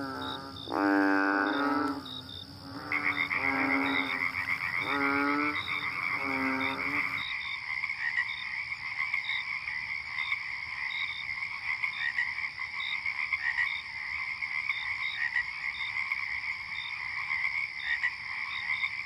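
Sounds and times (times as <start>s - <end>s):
frog chorus trilling and chirping: 0.0s - 19.0s
frog croaks: 0.0s - 19.0s.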